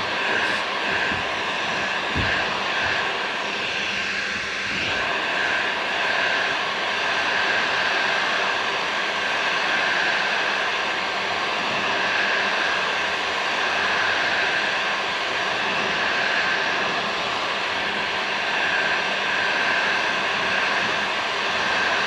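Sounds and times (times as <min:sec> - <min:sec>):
heat gun blowing with fan whine: 0:00.0 - 0:22.0.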